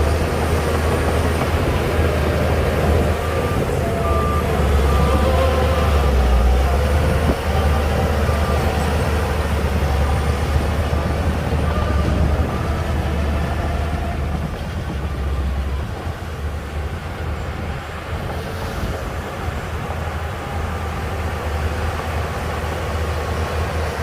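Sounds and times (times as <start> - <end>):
bulldozer diesel engine rumbling: 0.0 - 24.0.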